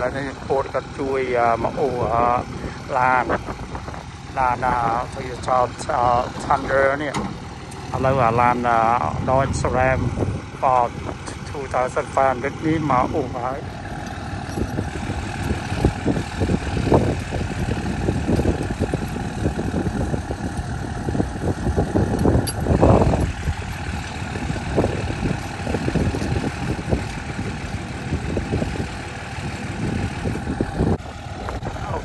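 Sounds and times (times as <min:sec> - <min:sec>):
truck engine idling: 0:00.0 - 0:32.0
wind buffeting the microphone: 0:00.0 - 0:32.0.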